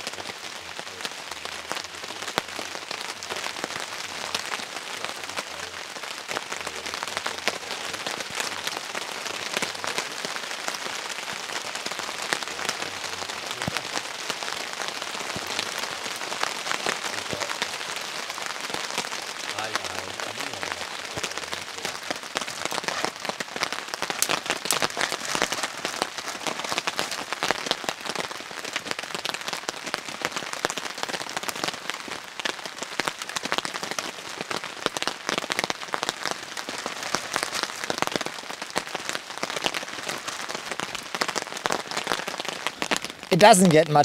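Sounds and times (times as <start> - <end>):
steady rain pattering: 0.0 - 44.0.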